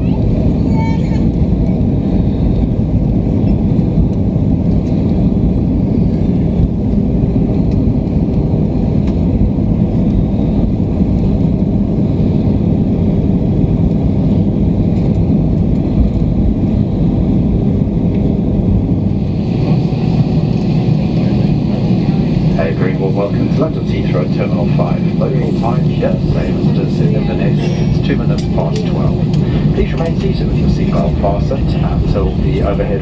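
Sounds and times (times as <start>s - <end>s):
airplane cabin rumble on runway: 0.0s - 33.0s.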